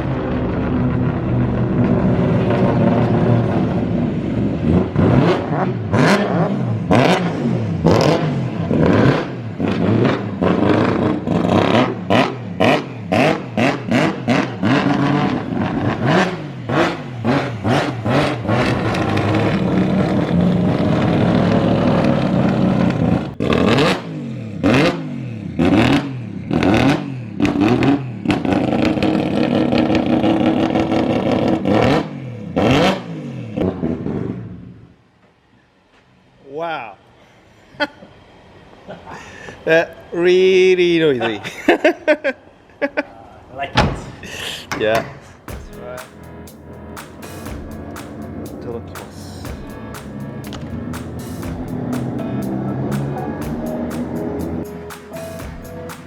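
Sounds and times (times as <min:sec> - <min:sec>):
engine revving in blips: 0:00.0 - 0:34.8, 0:45.5 - 0:56.0.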